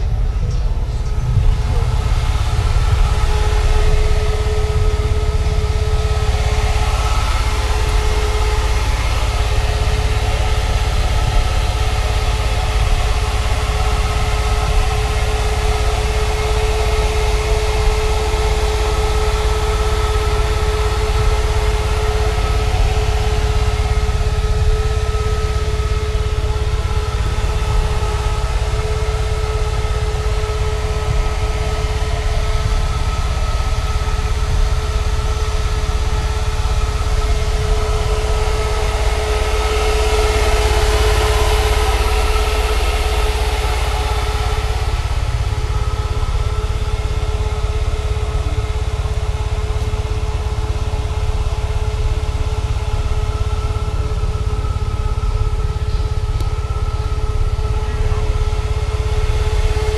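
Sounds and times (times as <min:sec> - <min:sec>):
cooling fans whining: 0:00.0 - 0:59.9
vehicle engine idling: 0:00.0 - 0:59.9.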